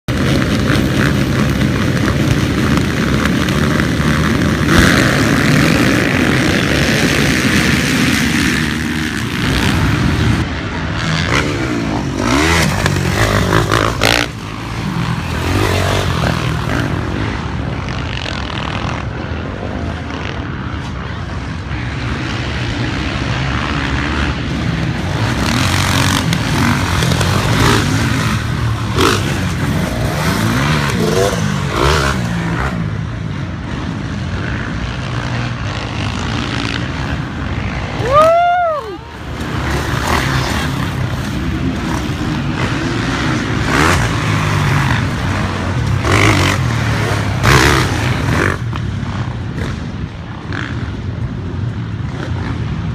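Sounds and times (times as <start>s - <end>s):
motocross engines revving: 0.0s - 52.9s.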